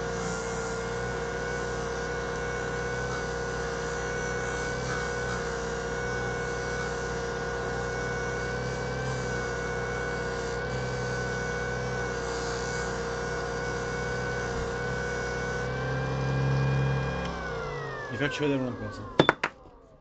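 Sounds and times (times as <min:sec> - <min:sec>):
disc sander motor hum: 0:00.0 - 0:20.0.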